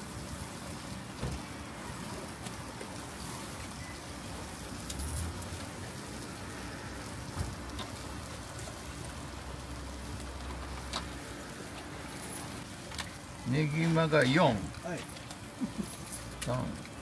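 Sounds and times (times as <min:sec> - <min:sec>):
skewers sizzling on grill: 0:00.0 - 0:17.0.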